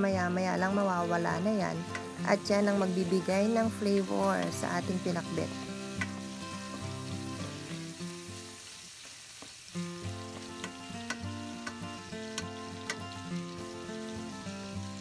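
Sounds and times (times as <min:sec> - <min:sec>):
background music: 0:00.0 - 0:08.7, 0:09.8 - 0:15.0
food sizzling in a pan: 0:00.0 - 0:15.0.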